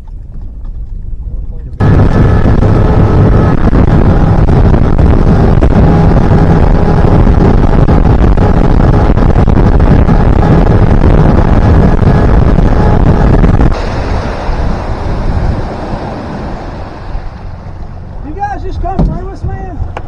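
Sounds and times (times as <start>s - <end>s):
boat motor running: 0.0s - 20.0s
wind buffeting microphone: 0.0s - 20.0s.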